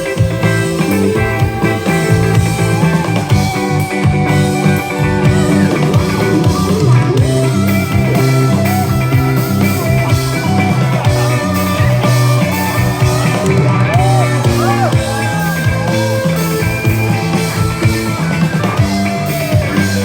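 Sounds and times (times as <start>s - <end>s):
bass guitar: 0.0s - 20.0s
drums: 0.0s - 20.0s
electric guitar bending notes: 0.0s - 20.0s.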